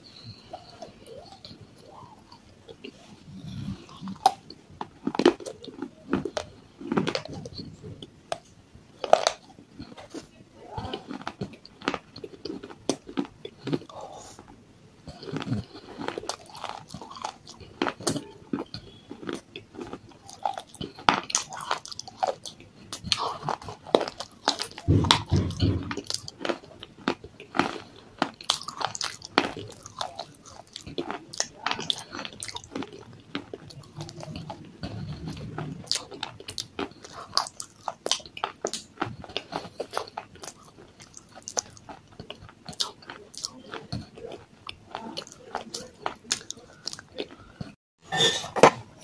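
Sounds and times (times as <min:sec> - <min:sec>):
chewing crunchy clay: 0:00.2 - 0:49.0.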